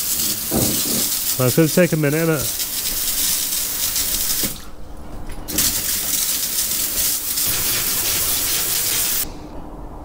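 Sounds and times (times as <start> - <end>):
hose water splashing: 0.0 - 4.6, 5.5 - 9.2.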